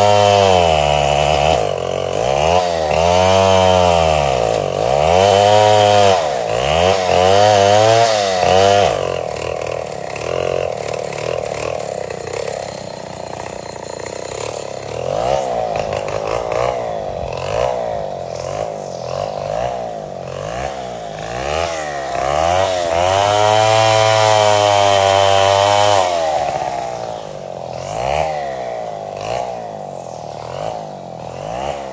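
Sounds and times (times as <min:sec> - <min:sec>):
chainsaw engine revving: 0:00.0 - 0:31.9.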